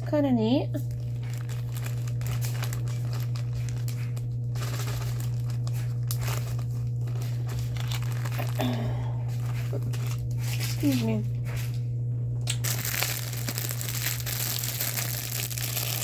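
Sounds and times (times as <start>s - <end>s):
steady low hum: 0.0s - 16.0s
plastic bags crinkling: 0.8s - 11.0s, 12.6s - 16.0s.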